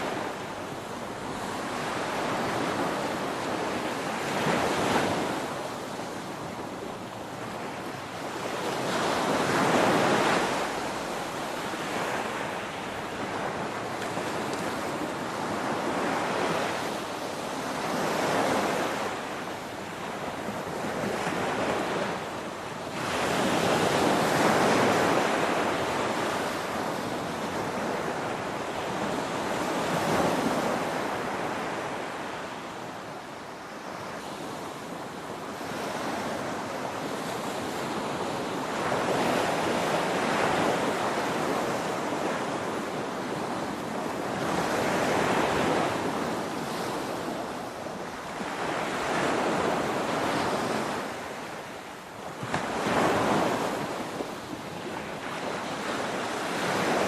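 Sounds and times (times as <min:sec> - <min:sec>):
ocean waves crashing on shore: 0:00.0 - 0:57.0.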